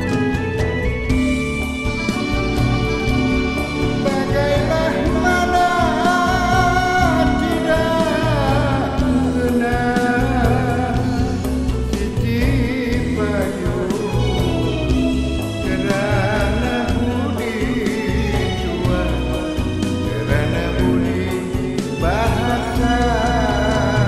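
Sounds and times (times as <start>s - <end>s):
song with band accompaniment: 0.0s - 24.0s.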